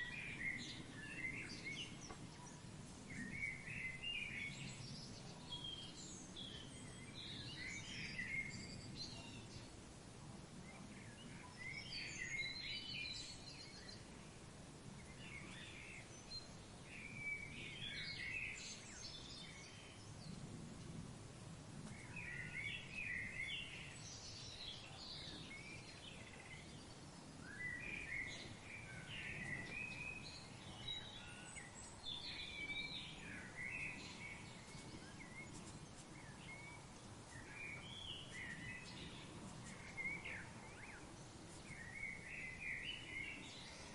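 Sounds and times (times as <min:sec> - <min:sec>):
birds twittering and chirping: 0:00.0 - 0:43.9.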